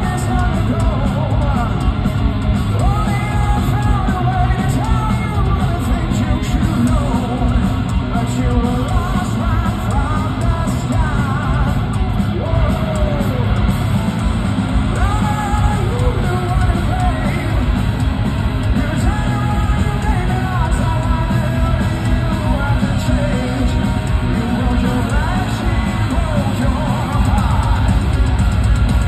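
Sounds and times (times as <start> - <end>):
person singing: 0.0 - 2.0, 2.7 - 13.7, 14.9 - 17.8, 18.6 - 28.1
bass: 0.0 - 29.0
distorted electric guitars: 0.0 - 29.0
drums: 0.0 - 29.0.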